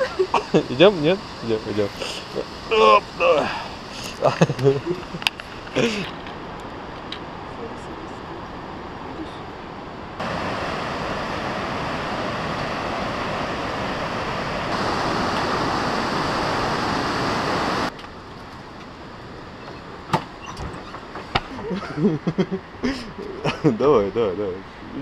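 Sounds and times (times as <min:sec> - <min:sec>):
river rushing over rapids: 0:00.0 - 0:20.1.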